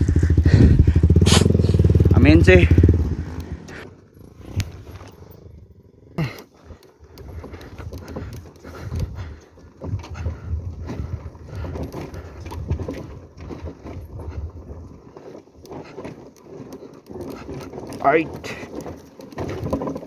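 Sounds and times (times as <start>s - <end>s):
bike jolting over stones: 0.0s - 20.0s
motorcycle engine at low revs: 0.0s - 20.0s.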